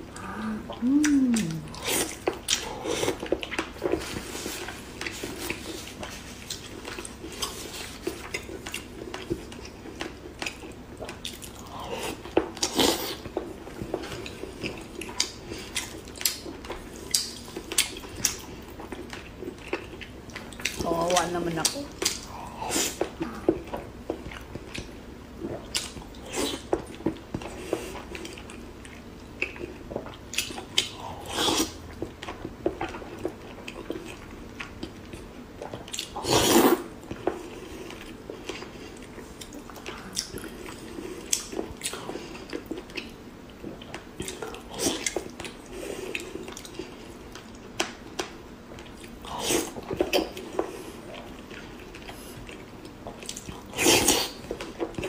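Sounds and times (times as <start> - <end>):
close-miked chewing and mouth smacks: 1.0 - 55.0.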